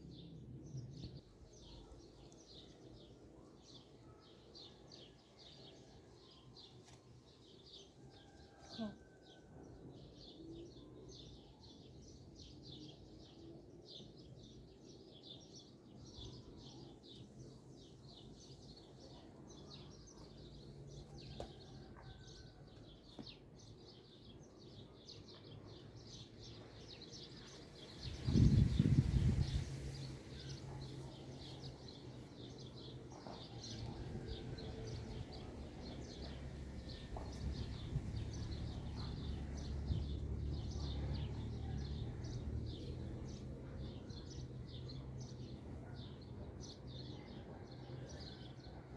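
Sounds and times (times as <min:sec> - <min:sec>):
small birds chirping: 0:00.0 - 0:48.6.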